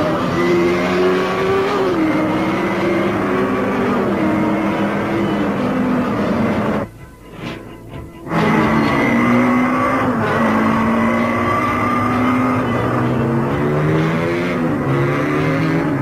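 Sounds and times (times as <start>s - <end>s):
racing motorcycle engines revving: 0.0s - 6.9s, 7.5s - 16.0s.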